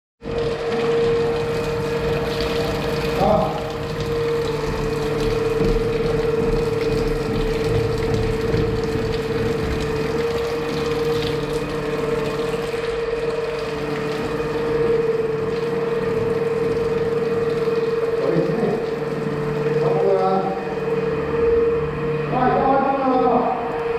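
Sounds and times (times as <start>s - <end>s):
machine drone with hum: 0.2s - 23.9s.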